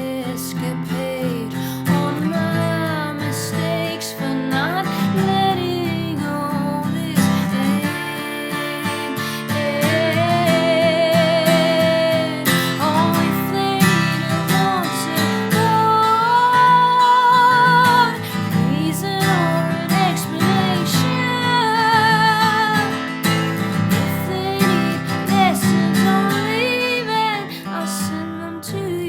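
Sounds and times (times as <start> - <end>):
acoustic guitar strumming: 0.0 - 29.0
woman singing with vibrato: 0.0 - 29.0.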